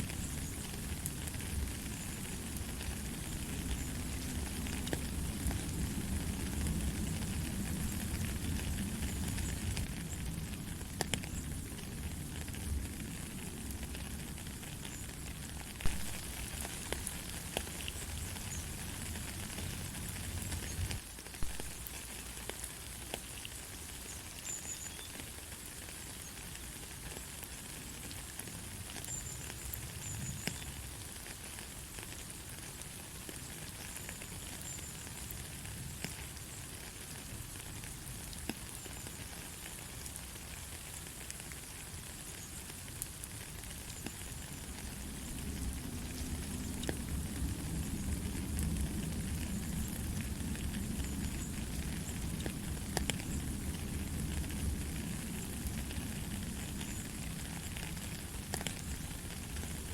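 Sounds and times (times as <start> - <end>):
light rain hissing: 0.0 - 59.9
rain drops ticking: 0.0 - 59.9.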